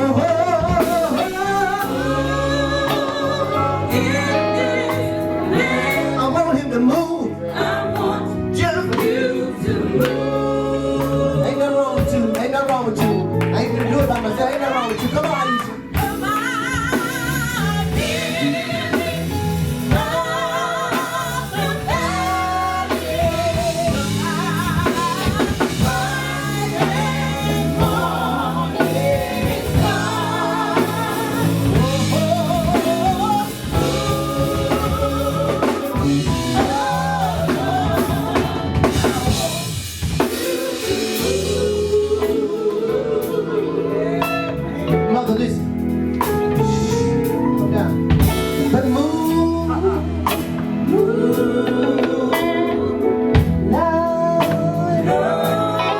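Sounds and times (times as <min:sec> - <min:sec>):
bass: 0:00.0 - 0:55.9
drum kit: 0:00.0 - 0:55.9.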